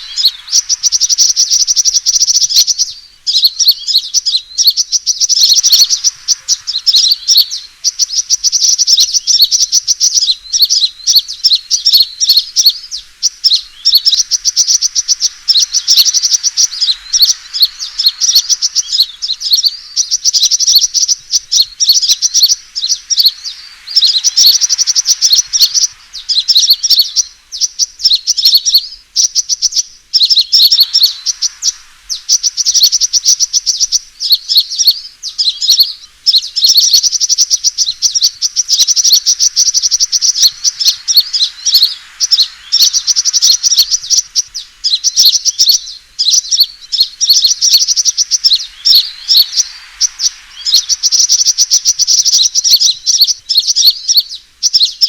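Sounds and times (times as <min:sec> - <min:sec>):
bird chirping trills: 0:00.0 - 0:55.0.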